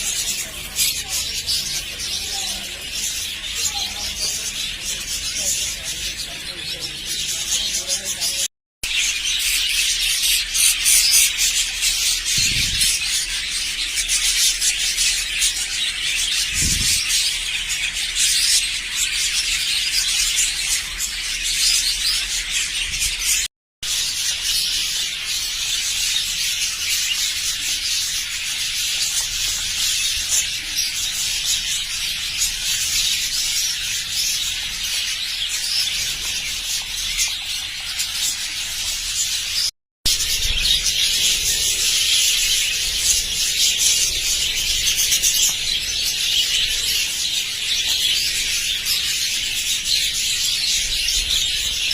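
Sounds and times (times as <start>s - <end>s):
budgerigars chattering and chirping: 0.0s - 51.9s.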